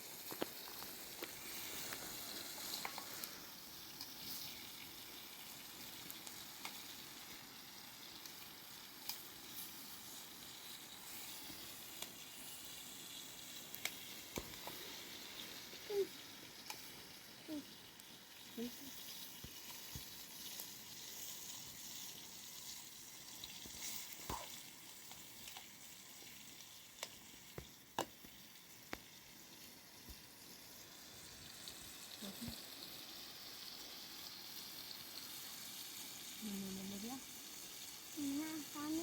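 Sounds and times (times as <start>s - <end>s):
food sizzling in frying: 0.0s - 39.0s
sharp popping of frying food: 0.0s - 39.0s.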